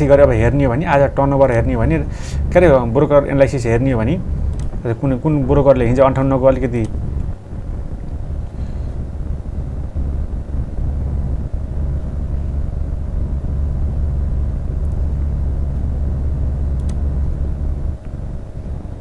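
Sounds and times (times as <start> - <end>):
faint steady hum: 0.0 - 19.0
low rumble: 0.0 - 19.0.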